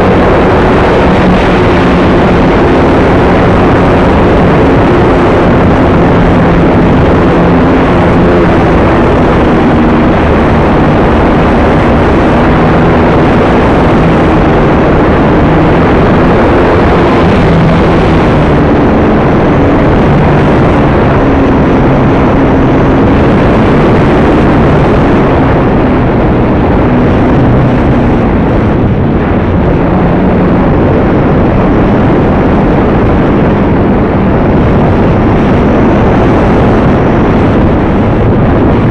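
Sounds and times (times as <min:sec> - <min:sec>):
electric motor and propeller humming: 0:00.0 - 0:38.9
wind rush: 0:00.0 - 0:38.9.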